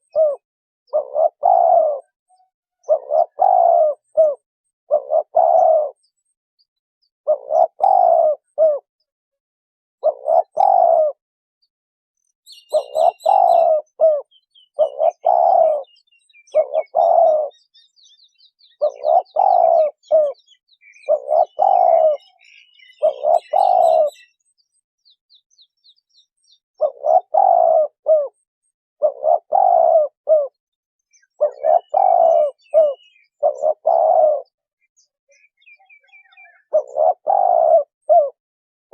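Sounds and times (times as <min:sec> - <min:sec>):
dove cooing: 0:00.0 - 0:06.2, 0:07.3 - 0:08.9, 0:10.0 - 0:11.2, 0:12.5 - 0:17.8, 0:18.6 - 0:24.4, 0:26.8 - 0:38.4
small birds chirping: 0:00.0 - 0:09.1, 0:10.0 - 0:38.4.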